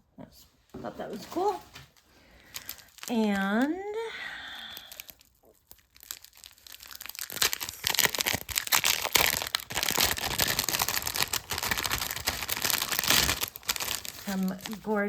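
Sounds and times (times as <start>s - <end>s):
packaging crinkling and rustling: 0.9s - 15.0s.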